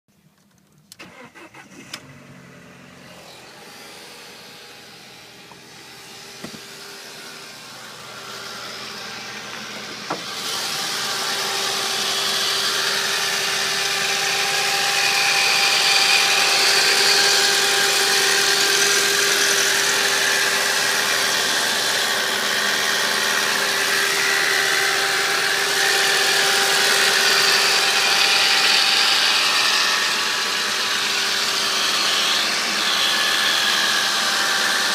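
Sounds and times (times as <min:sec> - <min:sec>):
car engine running: 0:01.0 - 0:34.9
loud hissing whir: 0:01.0 - 0:34.9.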